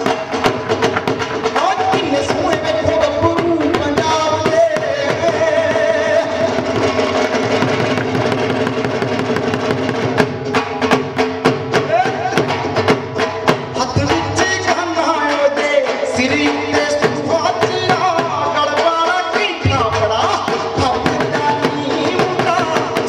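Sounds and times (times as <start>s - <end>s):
bhangra music: 0.0s - 23.0s
sharp drum strokes: 0.0s - 23.0s.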